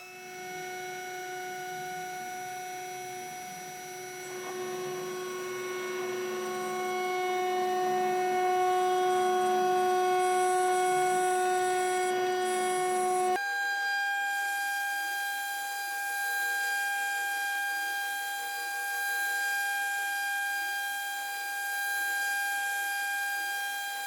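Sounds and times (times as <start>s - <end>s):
cnc mill spindle whine: 0.0s - 24.0s.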